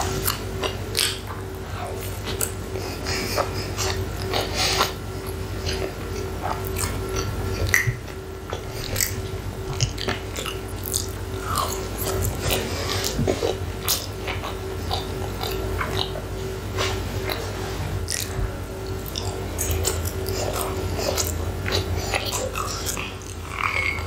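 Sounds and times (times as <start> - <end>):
faint steady hum: 0.0 - 24.0
person chewing food: 0.0 - 24.0.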